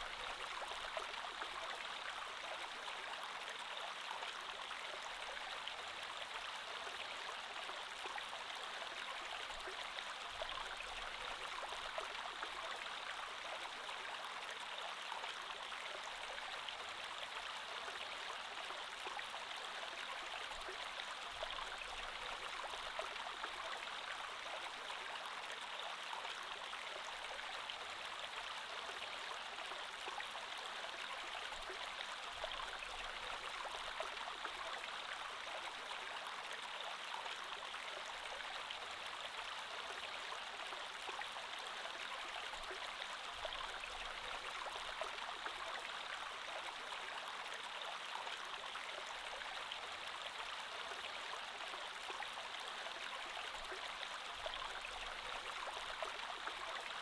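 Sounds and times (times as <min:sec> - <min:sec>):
creek water over stones: 0:00.0 - 0:57.0.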